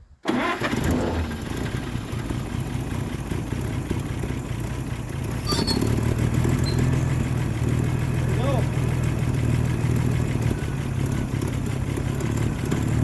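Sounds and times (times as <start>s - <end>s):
forklift engine running unevenly: 0.3s - 13.0s.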